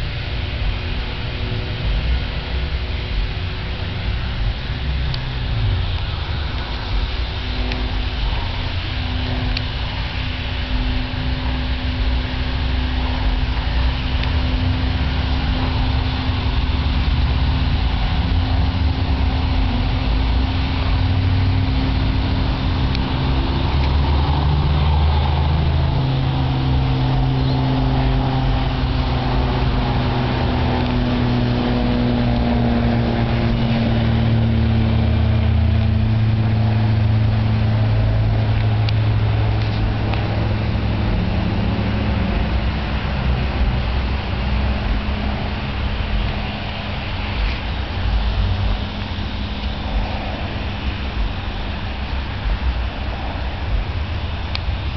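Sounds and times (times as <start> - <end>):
light plane engine droning: 0.0 - 54.9.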